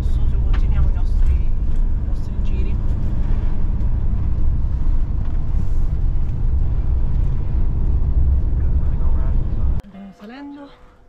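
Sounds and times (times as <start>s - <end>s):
camper van engine rumble: 0.0s - 9.8s
road noise: 0.0s - 9.8s.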